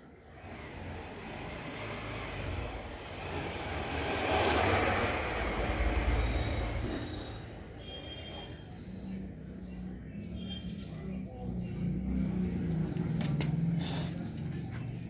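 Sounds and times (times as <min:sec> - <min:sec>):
vehicle engine rumble: 0:00.6 - 0:08.0, 0:08.6 - 0:15.0.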